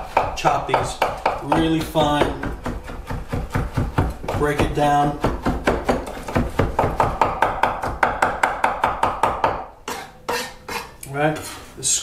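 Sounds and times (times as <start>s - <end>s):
knife chopping on wooden board: 0.0s - 10.9s.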